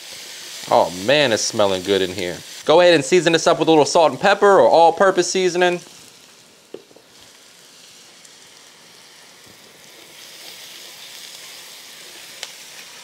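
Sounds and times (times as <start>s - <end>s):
vegetables sizzling in a skillet: 0.0s - 13.0s.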